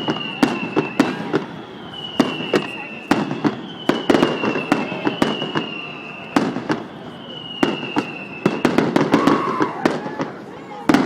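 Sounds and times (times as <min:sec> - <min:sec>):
descending firework whistle: 0:00.0 - 0:11.0
fireworks bangs: 0:00.0 - 0:11.0.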